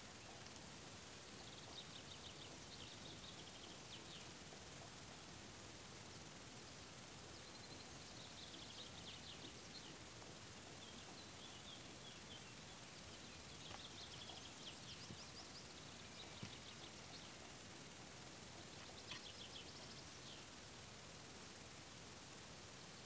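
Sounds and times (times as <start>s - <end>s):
faint birdsong trills: 0.0s - 21.8s
quiet background hiss: 0.0s - 23.0s.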